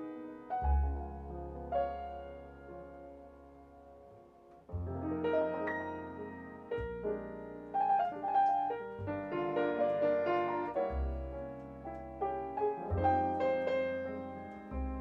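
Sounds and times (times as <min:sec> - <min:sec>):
grand piano playing jazz: 0:00.0 - 0:15.0.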